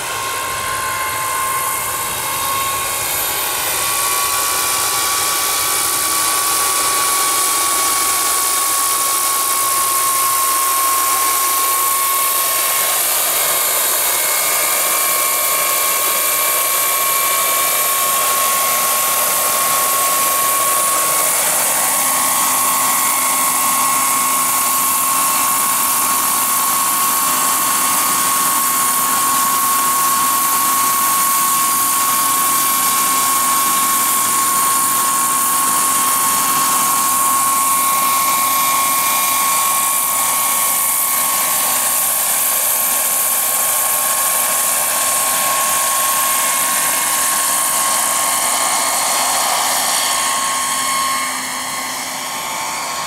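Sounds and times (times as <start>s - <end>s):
model helicopter turbine whine: 0.0s - 53.0s.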